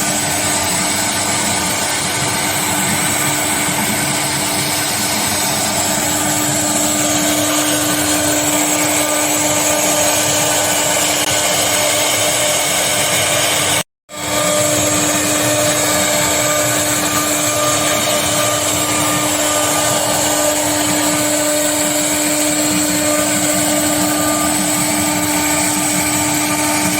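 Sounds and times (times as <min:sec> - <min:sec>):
wood router spindle whine: 0:00.0 - 0:26.9.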